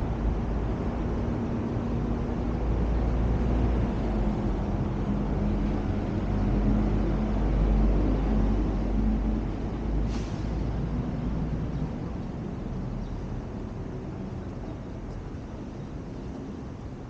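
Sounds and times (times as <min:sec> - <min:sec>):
faint engine hum: 0:00.0 - 0:17.0
road traffic rumble: 0:00.0 - 0:17.0.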